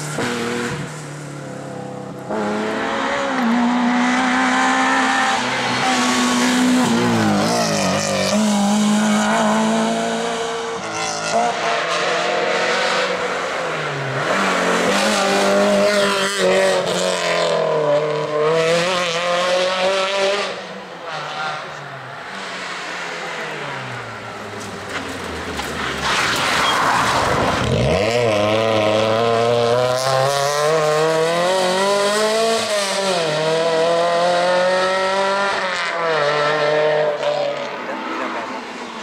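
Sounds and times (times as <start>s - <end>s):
rally car engines revving: 0.0s - 39.0s.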